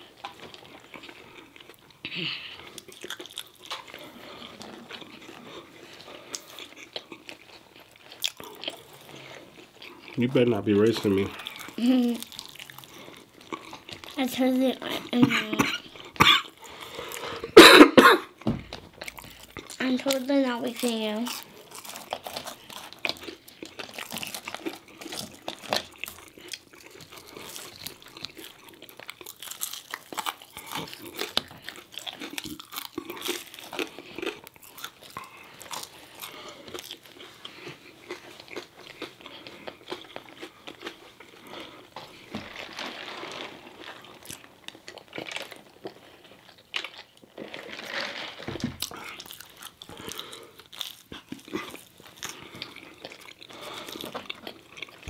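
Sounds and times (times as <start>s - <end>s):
people chewing crunchy food: 0.0s - 55.0s.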